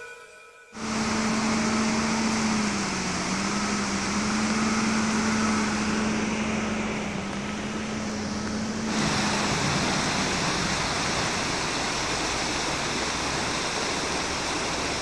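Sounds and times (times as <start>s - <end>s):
engine hum: 0.8s - 15.0s
rushing noise: 0.8s - 15.0s.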